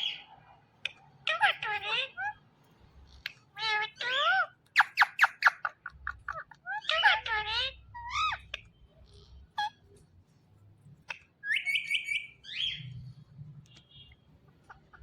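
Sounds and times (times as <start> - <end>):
parakeet calling and chirping: 0.0 - 10.1, 11.0 - 15.0.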